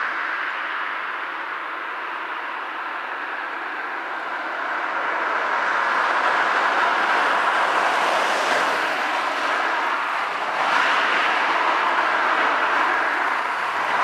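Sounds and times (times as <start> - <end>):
train rushing past: 1.6 - 14.0.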